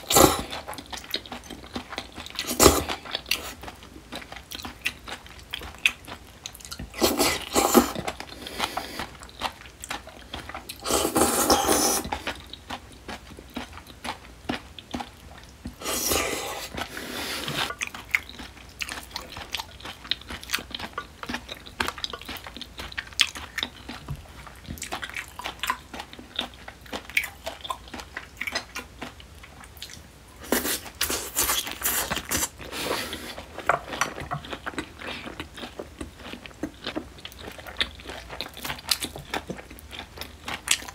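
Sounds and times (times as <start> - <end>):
chewing with mouth clicks: 0.0 - 40.9.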